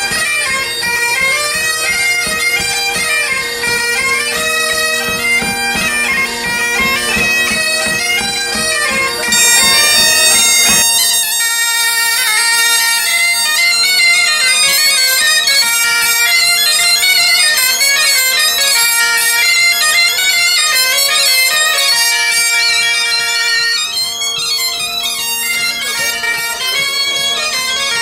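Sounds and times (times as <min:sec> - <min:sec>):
bagpipe drone: 0:00.0 - 0:28.0
shrill double-reed melody: 0:00.0 - 0:28.0.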